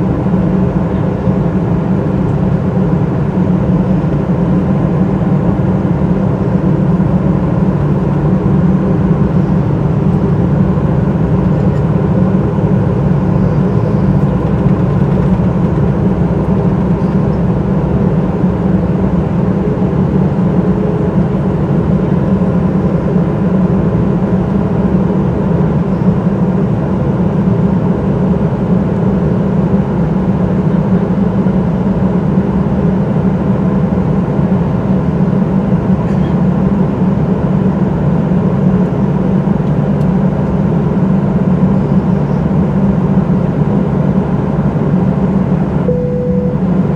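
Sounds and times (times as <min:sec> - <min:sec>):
airplane cabin hum: 0:00.0 - 0:46.9.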